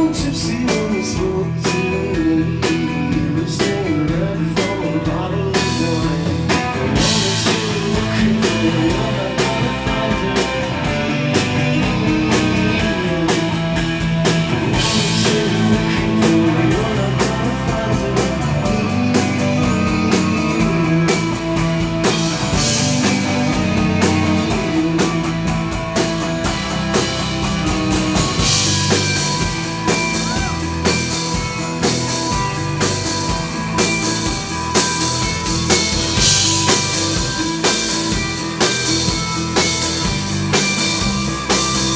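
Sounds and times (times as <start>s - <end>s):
drum kit beat: 0.0s - 41.9s
electric guitar: 0.0s - 41.9s.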